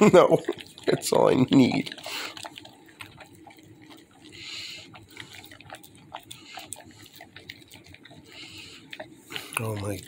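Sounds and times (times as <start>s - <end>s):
puppy chewing and lapping: 0.0s - 10.0s.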